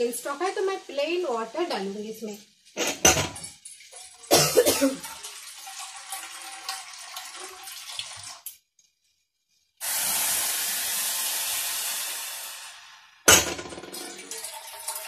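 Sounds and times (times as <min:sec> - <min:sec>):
water pouring into pot: 0:00.0 - 0:08.6, 0:09.8 - 0:15.0.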